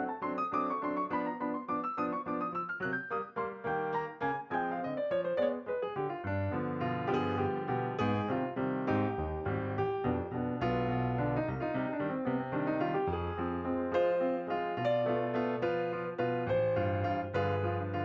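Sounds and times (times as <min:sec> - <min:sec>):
lively piano music: 0:00.0 - 0:18.0.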